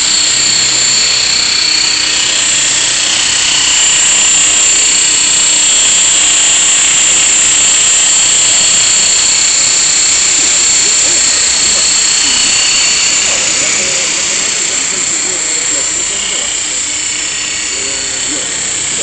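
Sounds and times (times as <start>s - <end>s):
rc helicopter motor whine: 0.0s - 19.0s.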